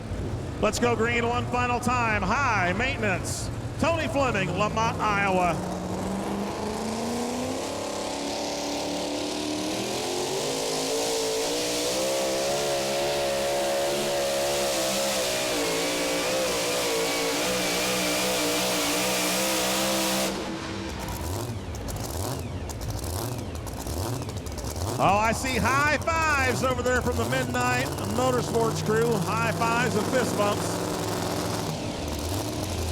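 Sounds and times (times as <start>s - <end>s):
pulling truck engine at full throttle: 0.0s - 32.9s.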